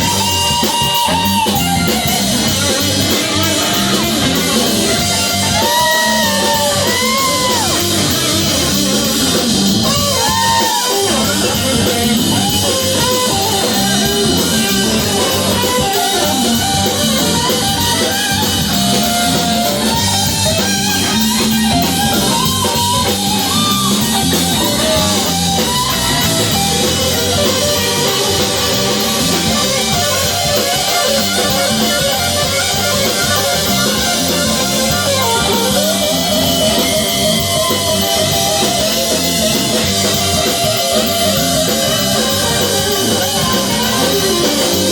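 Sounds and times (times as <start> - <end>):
electric guitar leads: 0.0 - 44.9
live rock band playing: 0.0 - 44.9.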